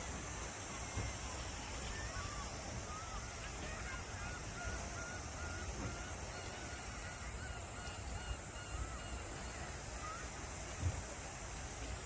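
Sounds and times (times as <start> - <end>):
sea waves rumbling: 0.0 - 12.0
gulls calling: 0.1 - 12.0.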